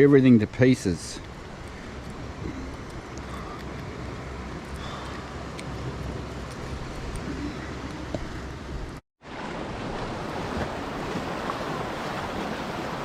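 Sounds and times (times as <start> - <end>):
surf against rocks: 0.2 - 13.0.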